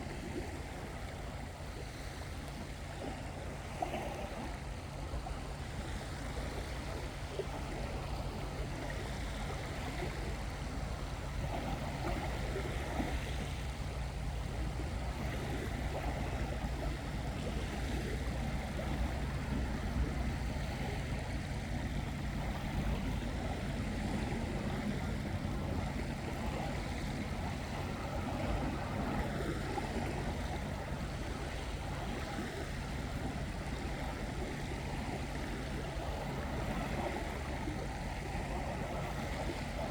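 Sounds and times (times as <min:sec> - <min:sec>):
constant low hum: 0:00.0 - 0:39.9
seawater washing against shore: 0:00.0 - 0:39.9.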